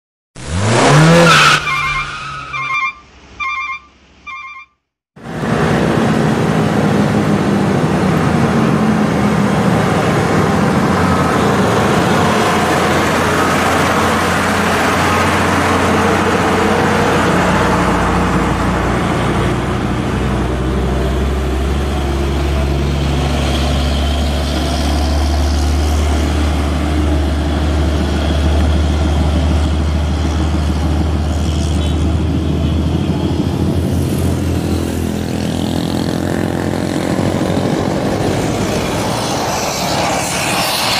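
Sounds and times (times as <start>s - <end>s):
diesel trucks labouring uphill: 0.4s - 40.9s
road noise: 0.4s - 40.9s.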